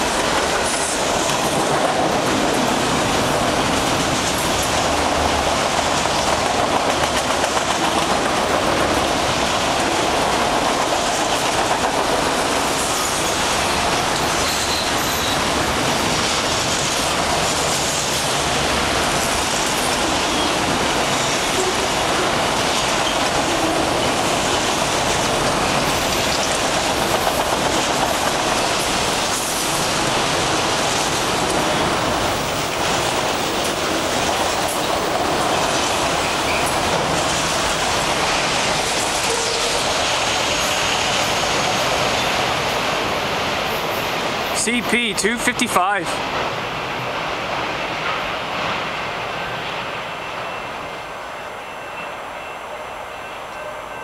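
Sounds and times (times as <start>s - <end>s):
steel wheels rattling on rails: 0.0s - 52.4s
freight train passing: 0.0s - 54.0s.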